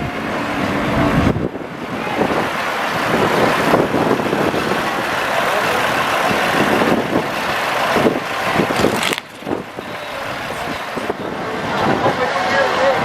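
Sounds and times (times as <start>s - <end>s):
diesel engine running: 0.0s - 11.5s.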